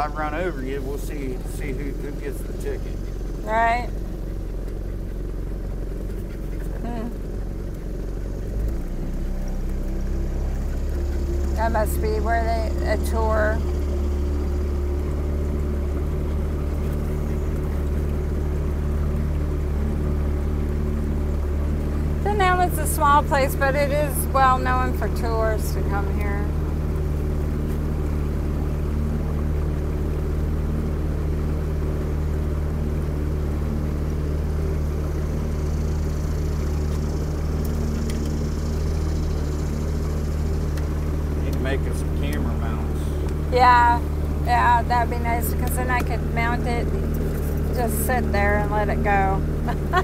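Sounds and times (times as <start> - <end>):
outboard motor droning: 0.0 - 50.0.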